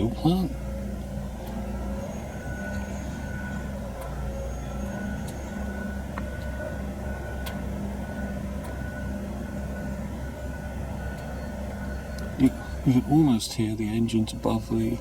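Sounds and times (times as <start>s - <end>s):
faint steady whine: 0.0s - 15.0s
machinery engine drone: 0.0s - 15.0s.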